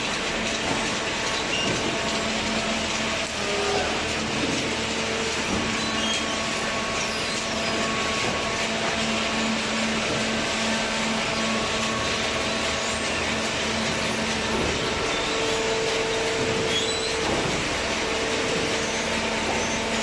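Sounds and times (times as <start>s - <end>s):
baler mechanical drone: 0.0s - 20.0s.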